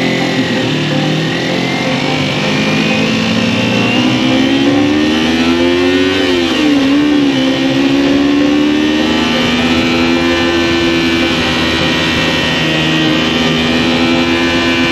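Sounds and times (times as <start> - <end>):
motorcycle engine accelerating: 0.0 - 14.9.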